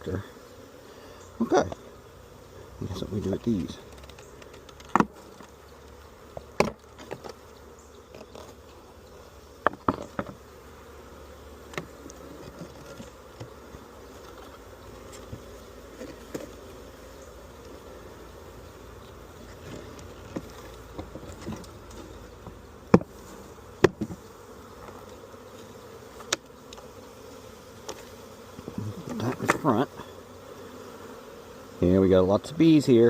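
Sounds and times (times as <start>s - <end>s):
honeybees buzzing: 0.0s - 33.0s.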